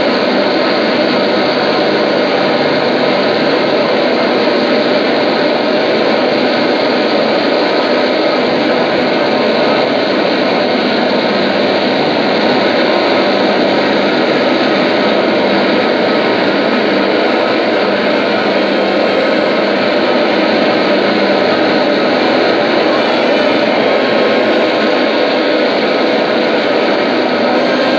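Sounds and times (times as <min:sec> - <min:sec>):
dense noise drone: 0:00.0 - 0:27.9.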